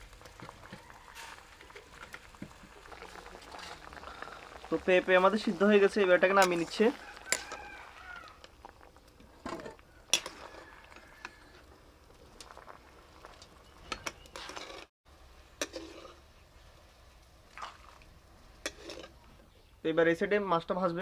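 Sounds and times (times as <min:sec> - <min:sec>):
cooking pots and utensils clinking: 0:00.0 - 0:16.4, 0:18.6 - 0:19.3.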